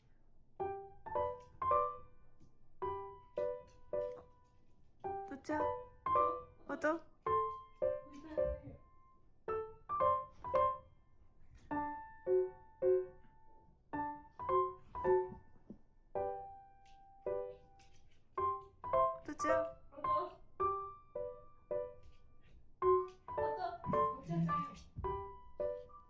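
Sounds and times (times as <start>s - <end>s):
light piano tune: 0.0s - 26.0s.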